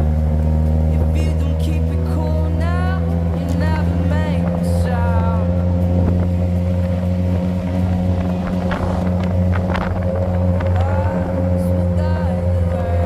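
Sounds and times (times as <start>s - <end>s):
motorcycle engine humming: 0.0s - 13.0s.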